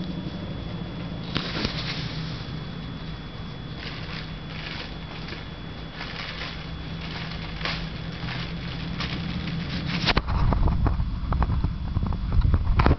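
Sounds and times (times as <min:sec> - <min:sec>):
low steady hum with crackle: 0:00.0 - 0:12.9
wind and handling on microphone: 0:00.0 - 0:12.9.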